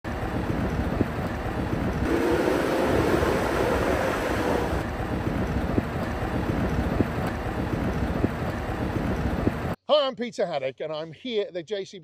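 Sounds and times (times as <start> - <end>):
diesel engine running: 0.1 - 9.7
wind buffeting microphone: 0.1 - 9.8.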